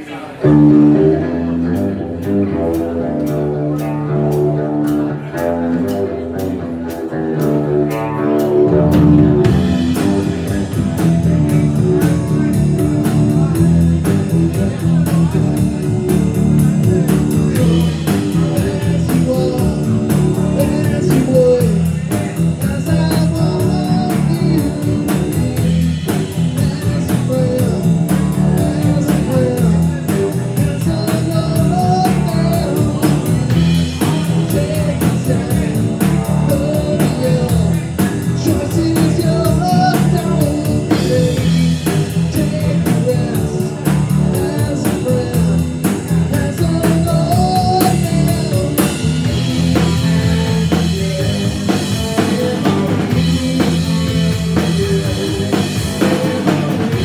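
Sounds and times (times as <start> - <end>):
blues rock band playing: 0.0 - 57.0.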